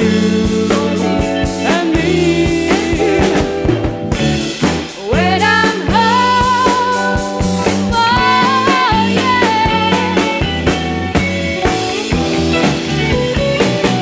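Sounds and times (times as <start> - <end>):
bass guitar: 0.0 - 14.0
drum kit: 0.0 - 14.0
guitar chords: 0.0 - 14.0
sliding lead guitar melody: 0.0 - 14.0.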